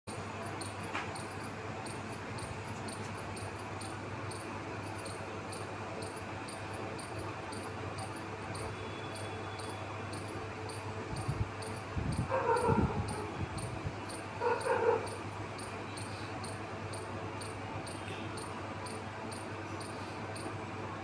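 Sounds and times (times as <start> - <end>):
cricket chirping: 0.1 - 20.5.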